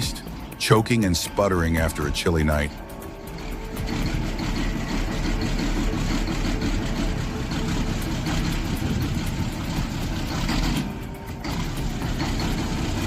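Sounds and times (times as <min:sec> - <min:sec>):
bus engine sputtering: 0:00.0 - 0:13.0.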